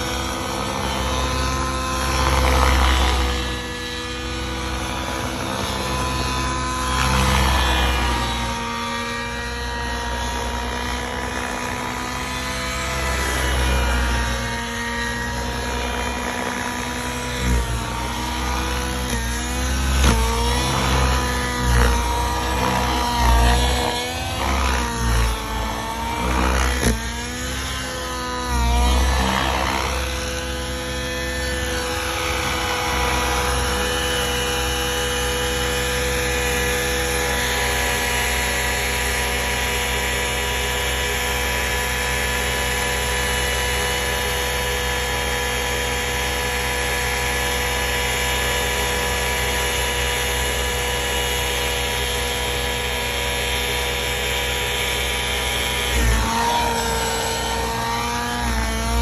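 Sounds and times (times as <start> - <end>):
model helicopter engine and rotor: 0.0 - 59.0.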